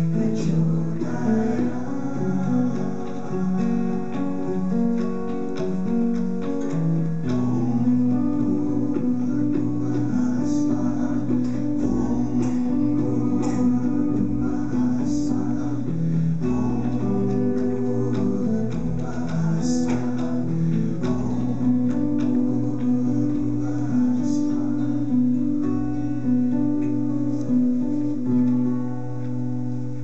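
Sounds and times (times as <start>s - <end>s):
person singing: 0.0s - 28.7s
hand drum strikes: 0.0s - 29.6s
acoustic guitar: 0.0s - 30.0s.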